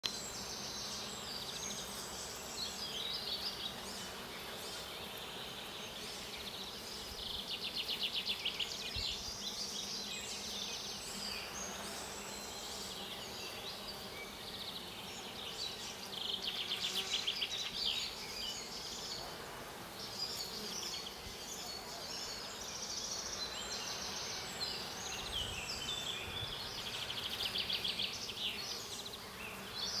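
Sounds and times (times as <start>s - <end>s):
bees buzzing: 0.2s - 30.0s.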